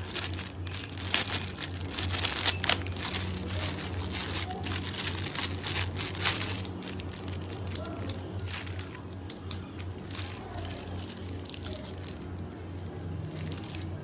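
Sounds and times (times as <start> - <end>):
handling rustles: 0.0 - 14.0.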